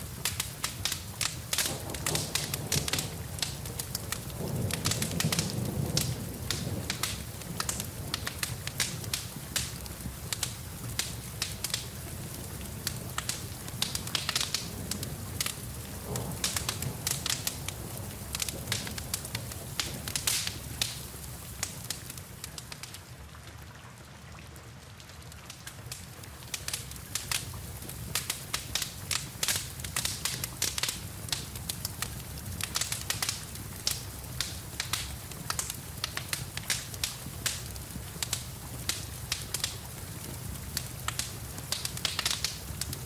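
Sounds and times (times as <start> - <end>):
wood fire crackling and popping: 0.0 - 24.4, 25.0 - 43.0
rain: 0.0 - 43.0.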